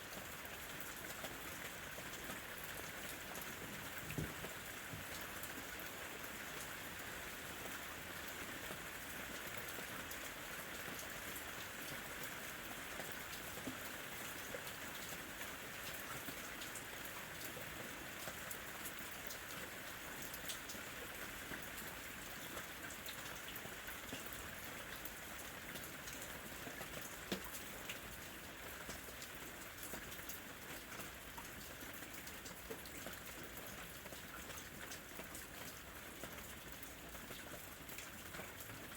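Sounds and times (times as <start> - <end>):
steady rain falling: 0.0 - 38.9
raindrops pattering: 0.1 - 38.9.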